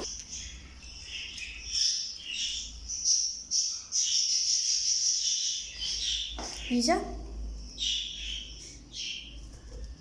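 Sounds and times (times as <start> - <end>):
budgerigars chirping and warbling: 0.0 - 10.0.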